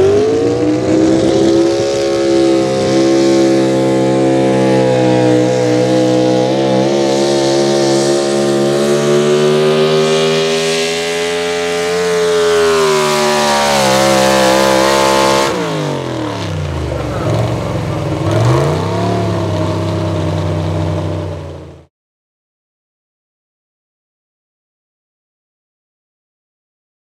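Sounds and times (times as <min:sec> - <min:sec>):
truck engine at full throttle: 0:00.0 - 0:21.9.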